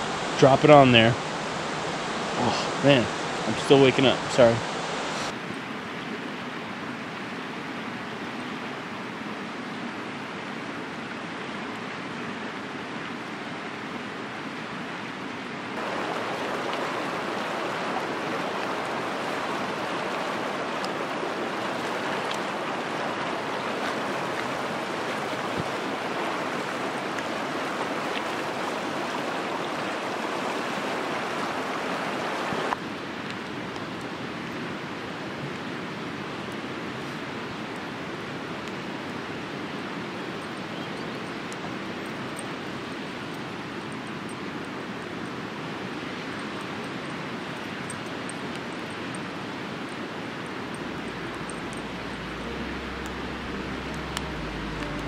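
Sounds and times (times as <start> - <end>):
river rushing over rocks: 0.0 - 5.5, 15.8 - 55.0.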